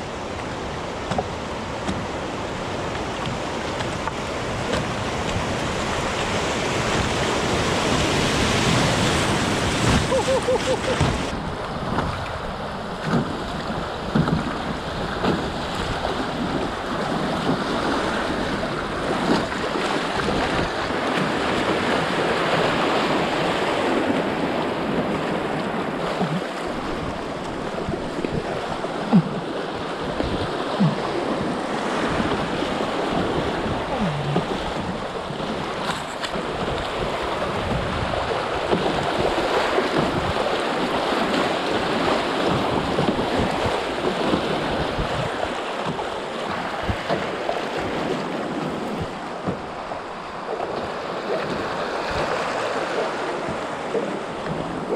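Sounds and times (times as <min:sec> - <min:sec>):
paddle splashes: 0:00.0 - 0:54.9
river water rushing and splashing: 0:00.0 - 0:54.9.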